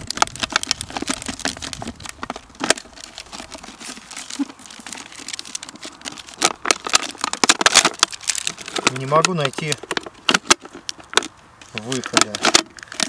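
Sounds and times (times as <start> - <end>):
plastic bottle crinkling: 0.0 - 13.0.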